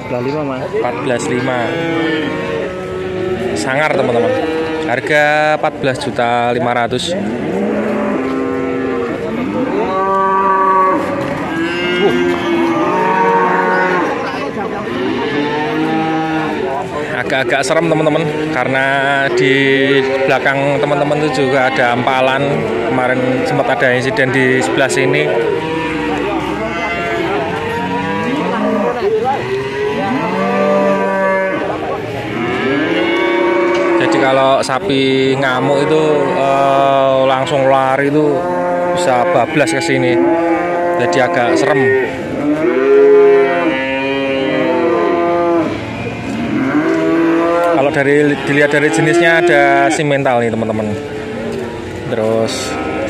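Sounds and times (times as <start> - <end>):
cattle mooing: 0.0 - 6.2, 7.0 - 53.0.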